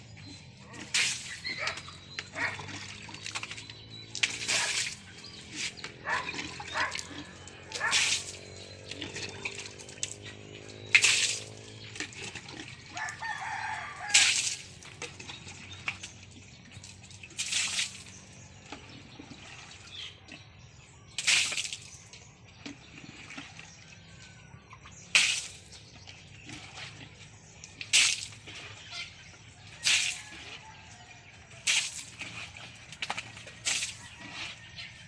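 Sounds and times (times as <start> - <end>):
water splashing into trough: 0.6 - 20.0, 21.1 - 24.2, 24.8 - 30.6, 31.4 - 34.7.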